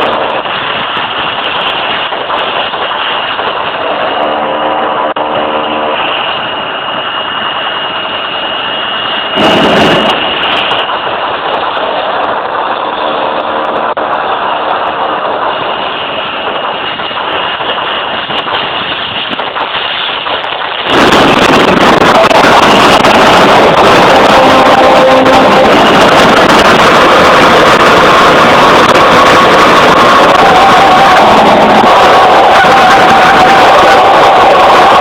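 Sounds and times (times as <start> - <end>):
jet engine running: 0.0 - 35.0.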